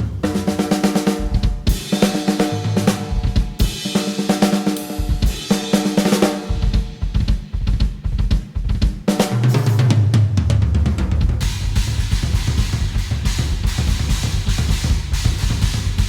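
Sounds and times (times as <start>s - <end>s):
drum kit playing fast pattern: 0.0s - 16.0s.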